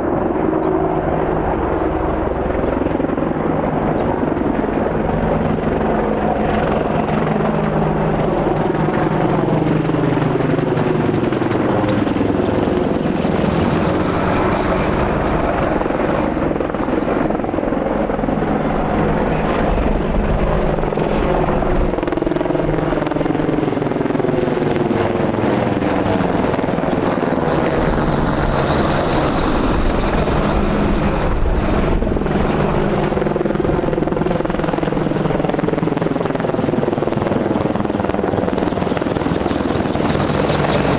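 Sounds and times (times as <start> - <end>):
helicopter rotors and turbines: 0.0 - 40.9
high turbine whine: 0.0 - 40.9.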